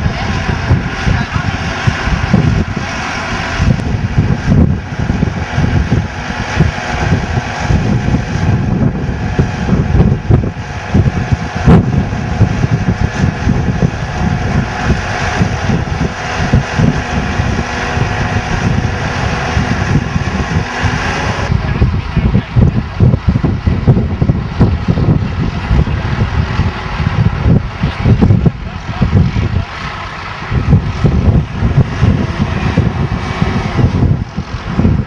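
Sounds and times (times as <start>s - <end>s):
tractor engine running: 0.0s - 35.0s
wind buffeting microphone: 0.0s - 35.0s.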